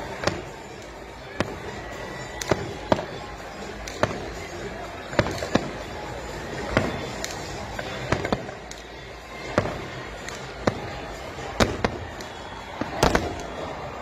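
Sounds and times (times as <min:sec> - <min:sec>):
fireworks bursting: 0:00.0 - 0:14.0
steady background noise: 0:00.0 - 0:14.0.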